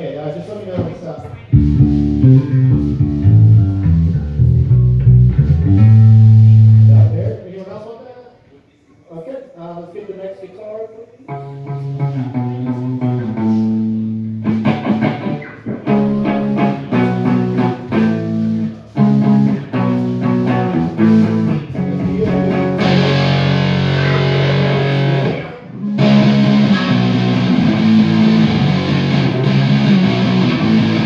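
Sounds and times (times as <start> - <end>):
electric guitar riffing: 1.2 - 7.4, 11.3 - 31.0.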